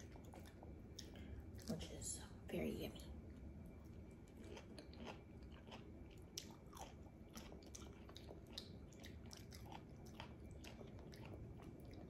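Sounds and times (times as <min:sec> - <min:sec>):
faint wet chewing: 0:00.0 - 0:01.9, 0:03.2 - 0:12.0.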